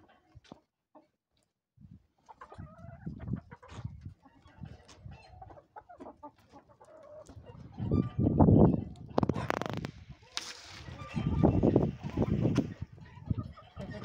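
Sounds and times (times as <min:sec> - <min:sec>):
chickens clucking: 0:00.0 - 0:01.1, 0:02.2 - 0:14.0.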